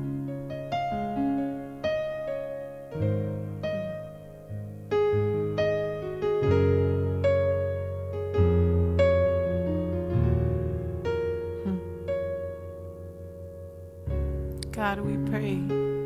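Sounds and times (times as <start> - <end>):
keyboard playing slow chords: 0.0 - 16.0.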